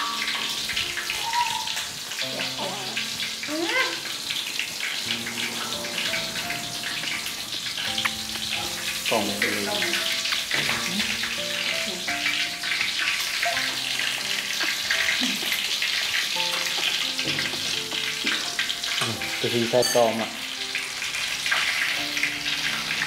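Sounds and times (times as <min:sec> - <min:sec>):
background music of held notes: 0:00.0 - 0:23.0
food sizzling in a wok: 0:00.0 - 0:23.0.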